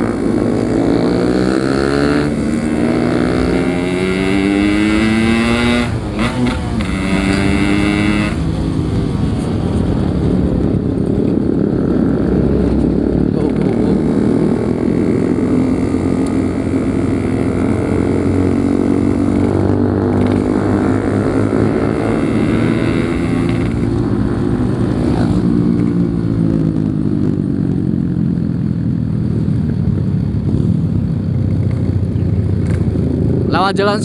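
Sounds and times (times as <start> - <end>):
two-stroke motorcycle engine running: 0.0 - 34.0
wind and road noise: 0.0 - 34.0.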